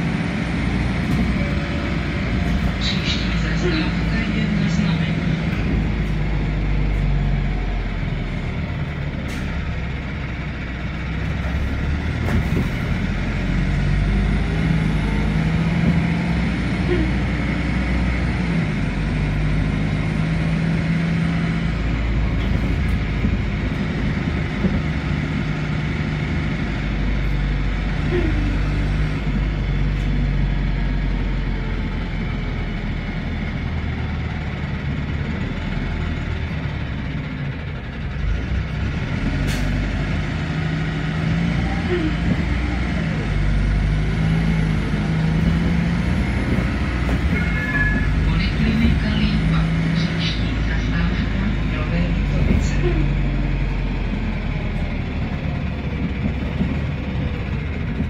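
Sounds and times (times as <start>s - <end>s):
low engine drone: 0.0s - 58.0s.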